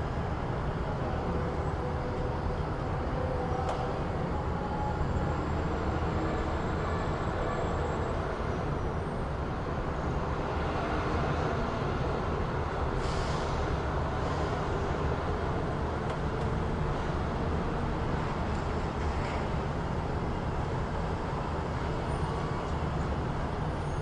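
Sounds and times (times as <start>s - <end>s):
low rumble of vehicles: 0.0s - 24.0s.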